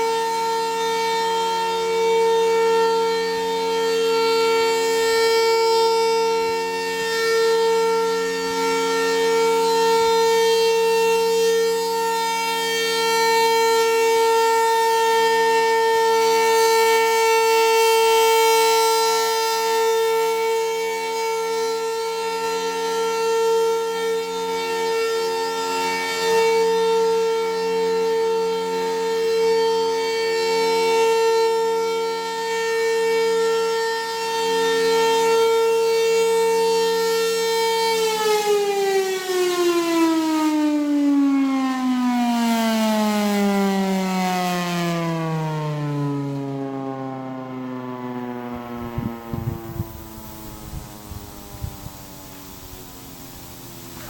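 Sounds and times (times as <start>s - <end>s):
warning siren steady tone: 0.0s - 54.0s.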